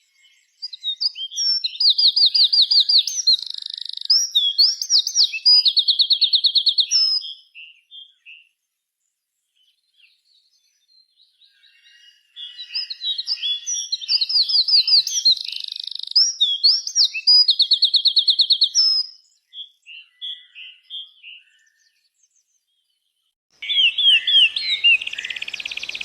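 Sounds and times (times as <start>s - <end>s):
birds chirping: 0.0s - 26.0s
songbird singing whistled notes: 0.0s - 26.0s.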